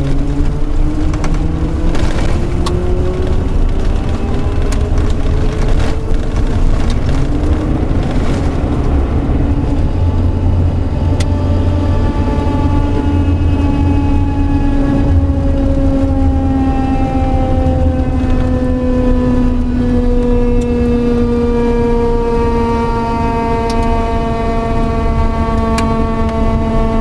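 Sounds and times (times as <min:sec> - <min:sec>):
vehicle engine rumble: 0:00.0 - 0:27.0
whining tone: 0:00.0 - 0:27.0.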